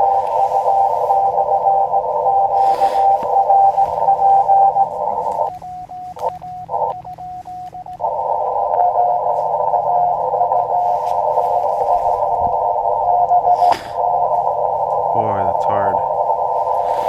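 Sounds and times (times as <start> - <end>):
faint morse signal: 0.0 - 17.0
morse code sidetone: 0.0 - 17.0
radio band hiss: 0.0 - 17.0.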